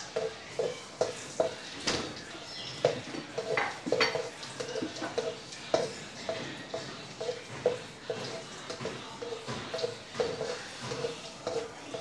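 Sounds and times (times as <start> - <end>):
spatula knocking against wok: 0.0 - 1.7, 2.8 - 12.0
food sizzling in oil: 0.0 - 12.0.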